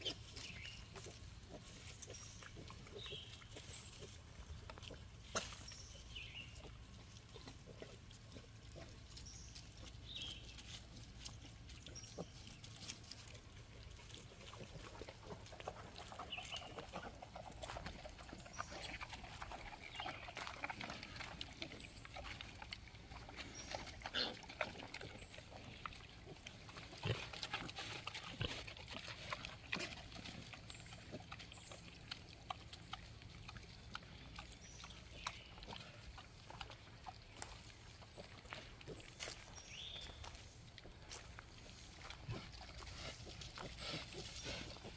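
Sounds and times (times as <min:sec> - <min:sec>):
soft pig grunts: 0:00.0 - 0:05.8, 0:06.4 - 0:44.9
pigs rooting and snuffling in dirt: 0:00.0 - 0:44.9.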